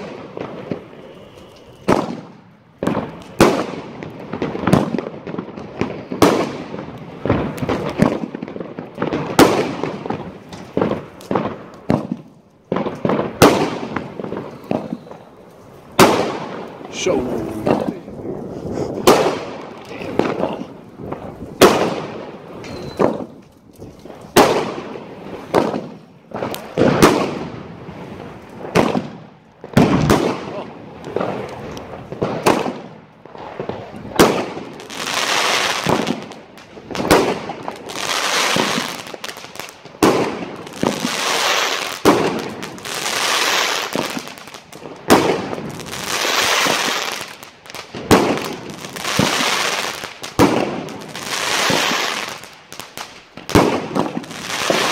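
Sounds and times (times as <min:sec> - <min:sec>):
fireworks crackling bursts: 0:00.0 - 0:54.9.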